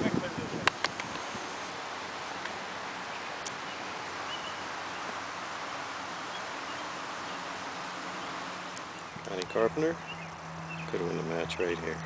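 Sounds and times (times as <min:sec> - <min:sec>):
air moving through trees: 0:00.0 - 0:11.0.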